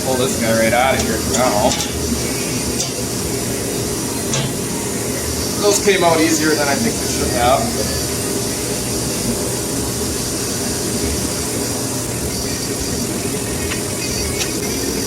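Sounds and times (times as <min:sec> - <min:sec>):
machine humming with hiss: 0:00.0 - 0:15.0.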